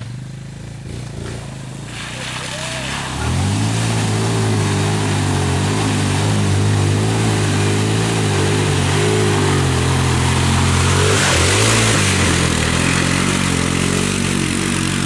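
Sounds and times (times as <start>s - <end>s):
atv engine revving: 0.0s - 15.0s
mud and water spraying: 0.8s - 15.0s.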